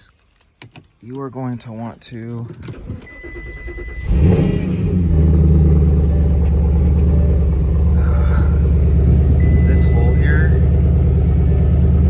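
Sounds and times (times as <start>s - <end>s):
car engine starting and idling: 1.4s - 12.0s.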